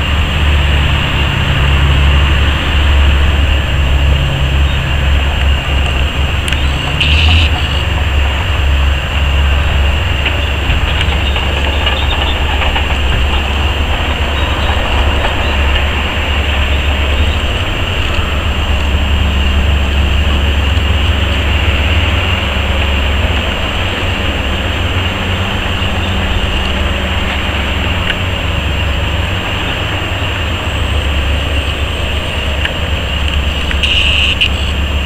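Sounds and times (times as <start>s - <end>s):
heavy diesel machinery rumbling: 0.0s - 35.0s.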